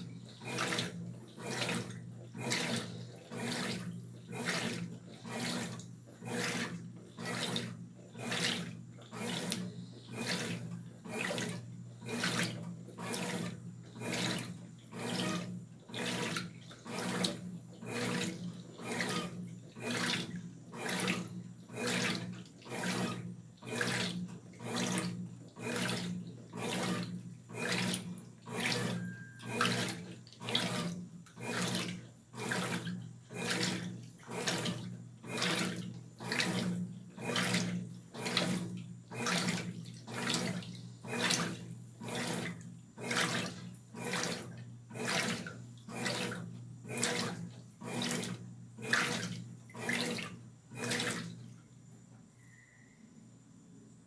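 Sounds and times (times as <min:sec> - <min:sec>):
water and laundry swishing: 0:00.0 - 0:51.5
washing machine motor hum: 0:00.0 - 0:51.9.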